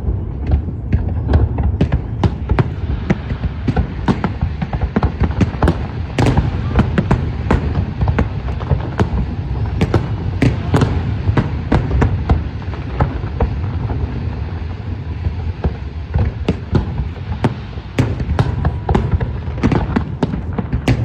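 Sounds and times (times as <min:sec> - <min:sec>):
firework bangs: 0:00.0 - 0:21.0.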